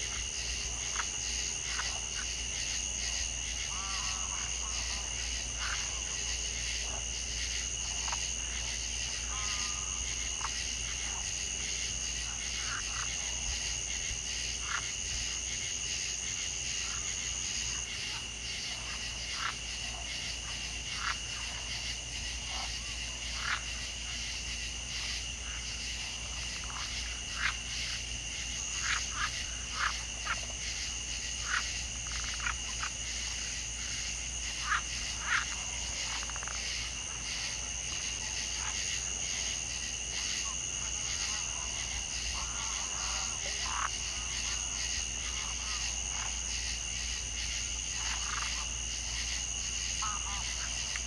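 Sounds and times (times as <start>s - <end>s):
frogs calling: 0.0s - 51.0s
high-pitched insect chorus: 0.0s - 51.0s.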